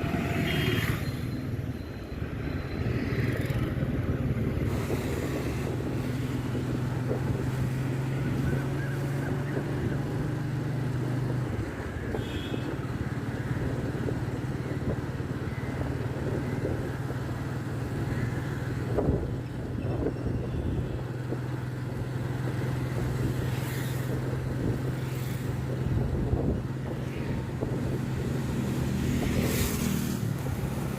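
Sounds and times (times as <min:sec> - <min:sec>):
road and traffic noise: 0:00.0 - 0:30.9.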